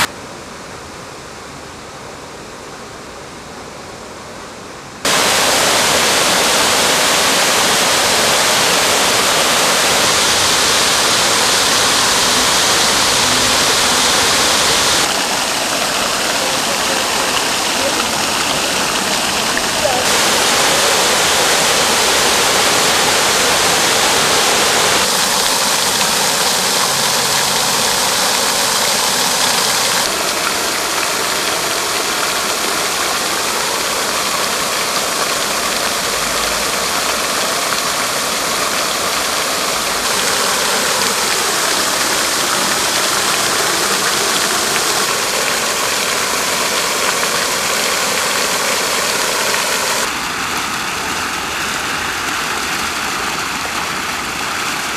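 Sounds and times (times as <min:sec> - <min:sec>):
fountain water splashing: 0:05.0 - 0:54.9.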